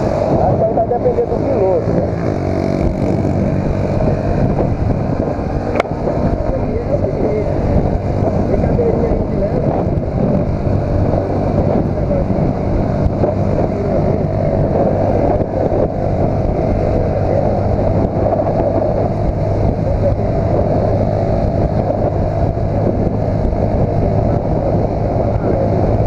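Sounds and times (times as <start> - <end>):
motorcycle engine running: 0.0 - 26.0
road and wind noise: 0.0 - 26.0.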